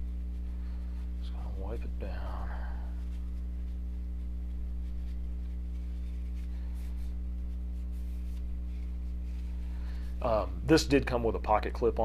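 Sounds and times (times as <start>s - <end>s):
cloth rubbing on metal: 0.0s - 11.0s
low electrical hum: 0.0s - 12.0s.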